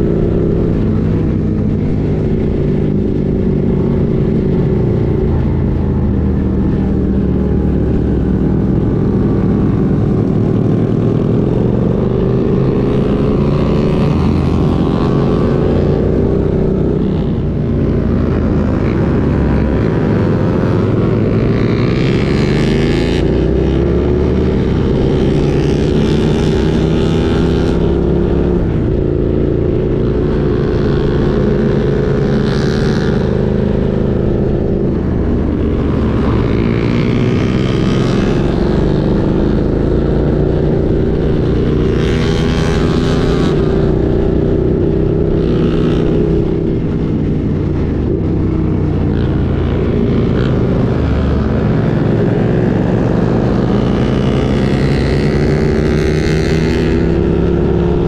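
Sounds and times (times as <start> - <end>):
motorcycle engine accelerating: 0.0 - 58.0
wind on microphone: 0.0 - 58.0.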